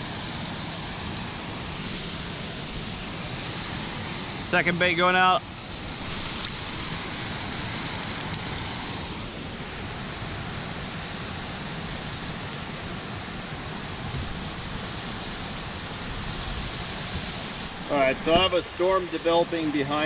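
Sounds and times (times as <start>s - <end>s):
water rushing over spillway: 0.0s - 20.0s.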